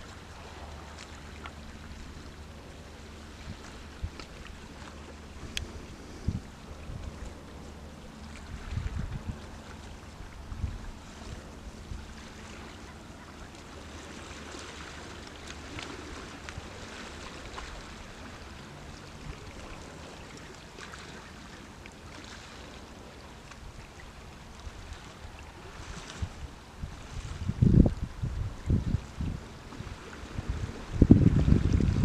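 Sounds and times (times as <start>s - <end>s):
wind rumble on microphone: 0.0s - 20.6s, 22.8s - 32.0s
sea water washing on rocks: 0.0s - 32.0s.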